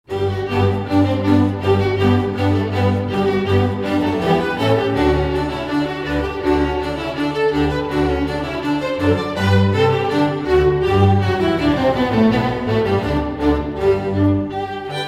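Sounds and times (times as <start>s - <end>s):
slow string music with bass: 0.1s - 15.0s.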